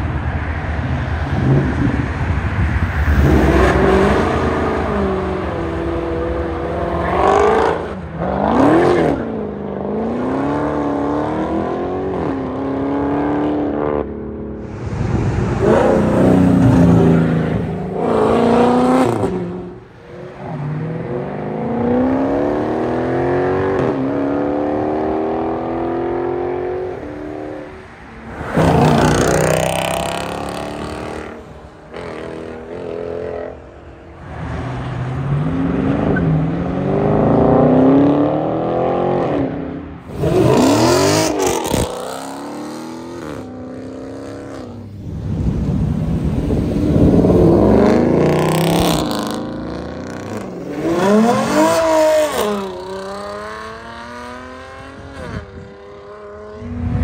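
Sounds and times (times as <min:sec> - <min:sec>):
car engines revving hard: 0:01.0 - 0:57.0.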